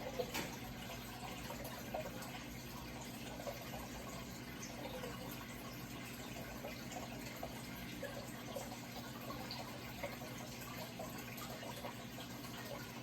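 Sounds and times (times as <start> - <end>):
water trickling and gurgling: 0.0 - 13.0.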